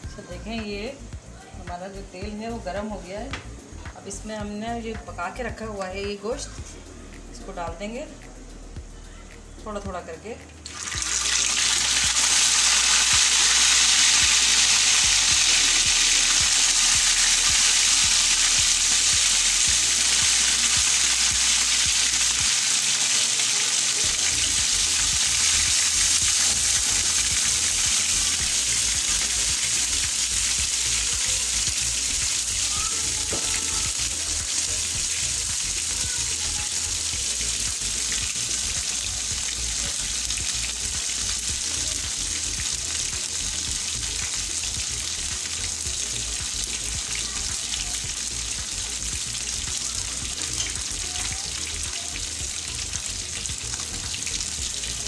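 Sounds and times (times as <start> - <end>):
meat sizzling in hot oil: 10.6 - 55.0.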